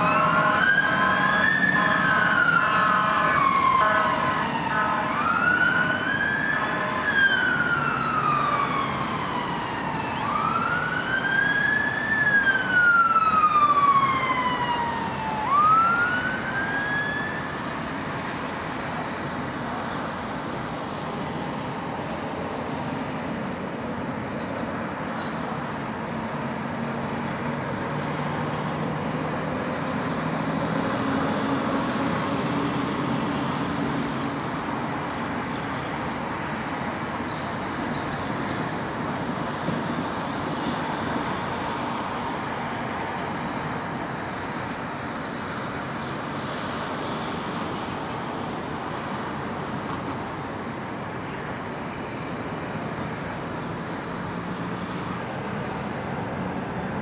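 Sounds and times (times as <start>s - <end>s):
emergency vehicle siren wailing: 0.0s - 57.0s
road traffic noise: 0.0s - 57.0s.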